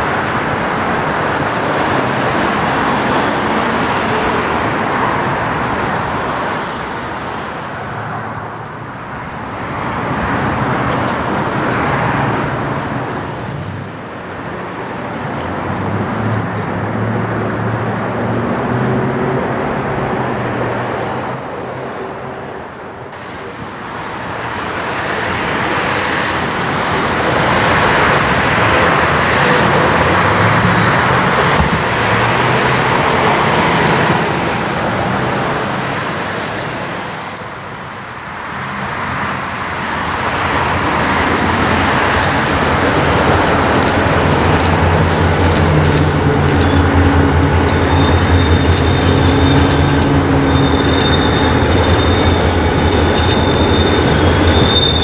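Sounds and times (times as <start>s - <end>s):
heavier engine hum: 0.0s - 36.3s, 37.4s - 55.0s
road traffic passing: 0.0s - 55.0s.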